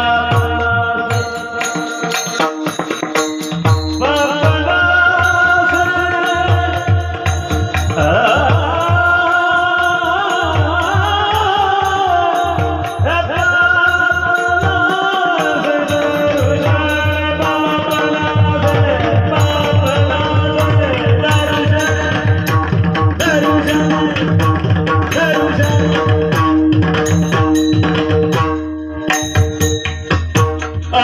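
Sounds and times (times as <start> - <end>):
hand drum fast rhythm: 0.0 - 31.0.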